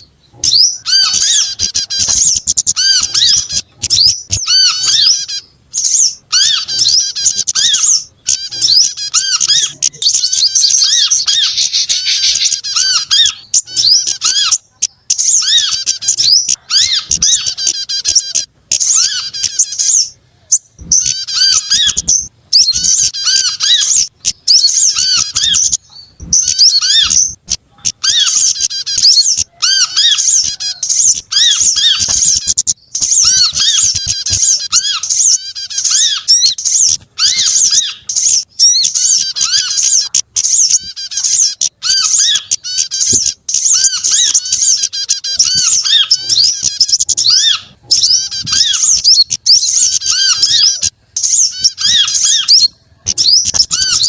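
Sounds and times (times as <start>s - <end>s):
high bird chirps and twitters: 0.0s - 54.0s.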